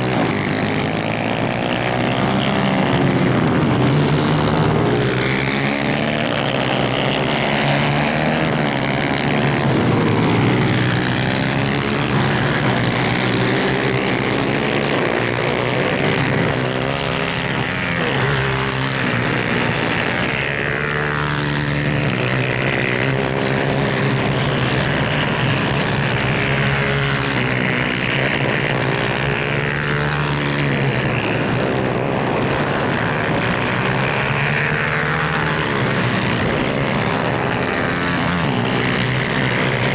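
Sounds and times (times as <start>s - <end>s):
kart engines racing at high revs: 0.0s - 39.9s.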